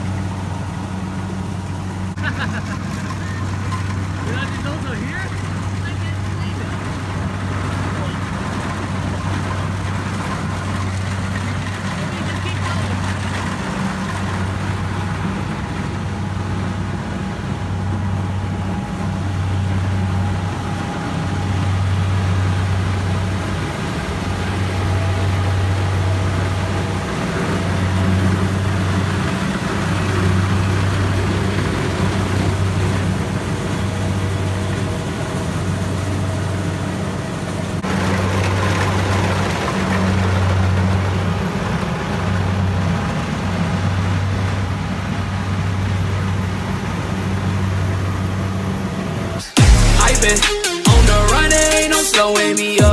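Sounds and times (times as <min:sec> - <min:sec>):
harvester engine drone: 0:00.0 - 0:52.9
mechanical whine: 0:00.0 - 0:52.9.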